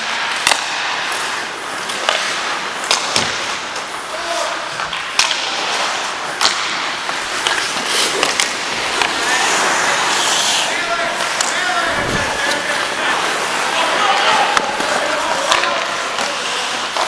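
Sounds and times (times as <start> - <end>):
hockey sticks and puck clacking: 0.0 - 17.0
skate blades scraping ice: 0.0 - 17.0.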